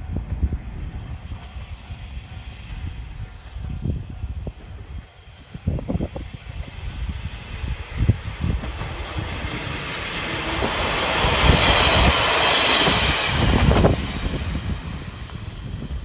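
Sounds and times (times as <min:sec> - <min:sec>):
rushing rail noise: 0:00.0 - 0:16.0.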